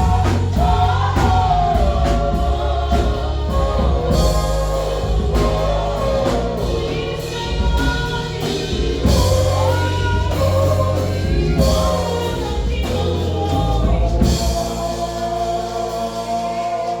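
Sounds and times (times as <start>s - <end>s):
bass: 0.0s - 17.0s
drum kit: 0.0s - 17.0s
gospel choir singing: 0.0s - 17.0s.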